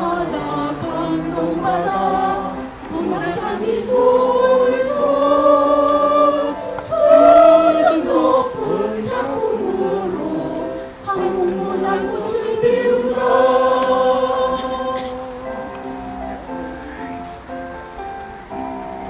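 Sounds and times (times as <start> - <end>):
group singing in unison: 0.0 - 15.7.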